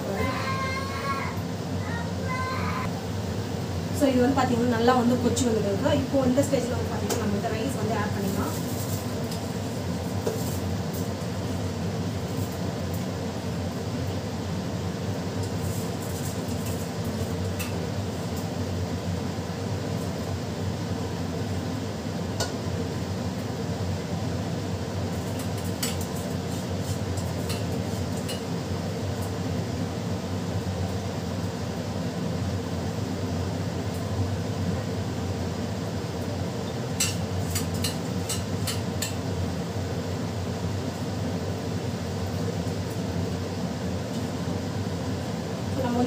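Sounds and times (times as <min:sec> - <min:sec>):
fan humming: 0:00.0 - 0:46.0.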